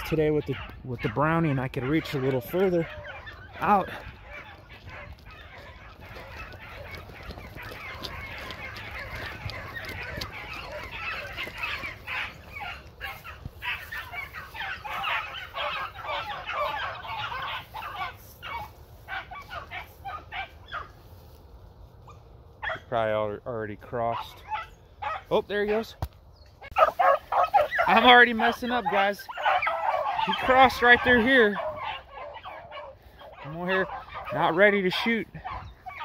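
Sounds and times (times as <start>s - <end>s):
dogs baying in chorus: 0.0s - 22.9s, 24.0s - 25.9s, 26.6s - 36.0s.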